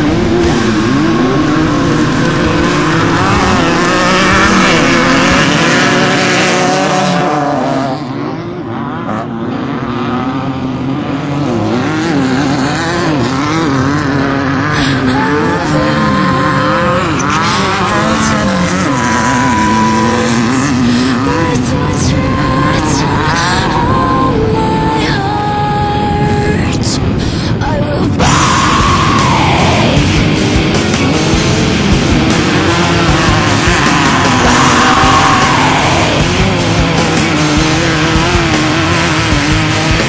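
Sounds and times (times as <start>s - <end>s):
off-road vehicle engines revving: 0.0s - 40.0s.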